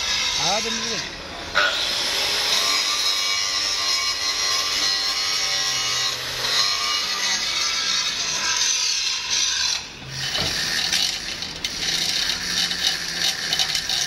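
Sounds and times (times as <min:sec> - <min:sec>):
rasping mechanical sawing noise: 0:00.0 - 0:14.0.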